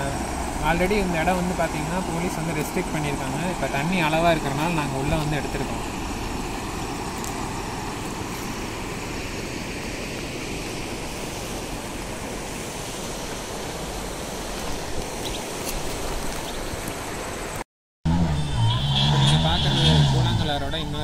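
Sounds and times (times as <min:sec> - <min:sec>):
river flowing over rocks: 0:00.0 - 0:17.6.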